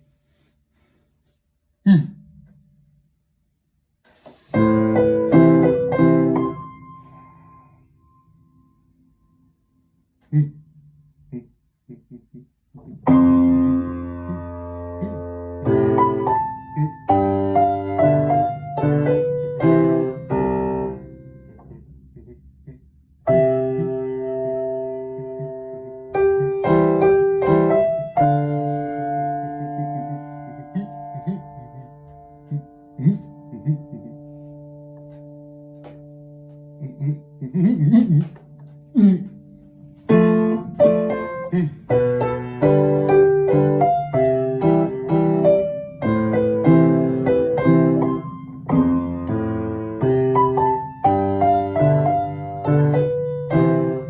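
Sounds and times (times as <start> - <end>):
slow piano chords: 4.4 - 10.4, 12.7 - 54.0.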